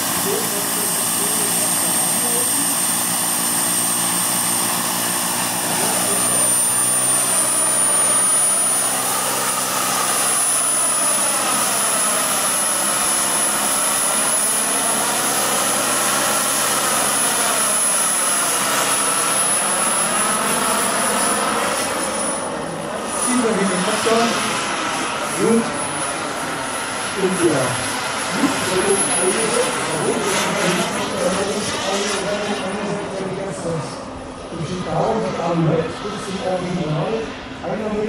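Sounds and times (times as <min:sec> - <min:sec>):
helicopter rotor rush: 0:00.0 - 0:38.0
turbine whine: 0:00.0 - 0:38.0.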